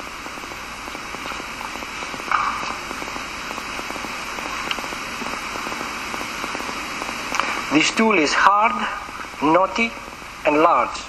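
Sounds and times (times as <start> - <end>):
background hiss with crackling: 0.0 - 11.0.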